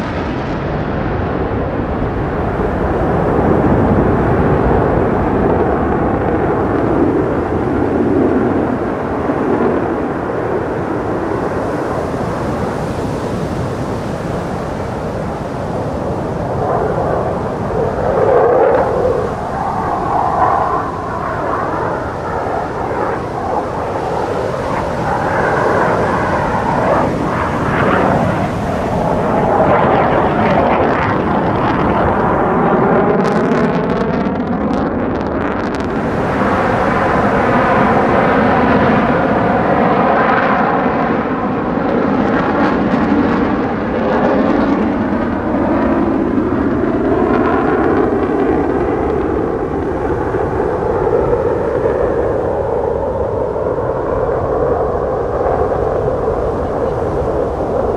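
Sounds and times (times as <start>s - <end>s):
fighter jet engine roar: 0.0s - 57.9s.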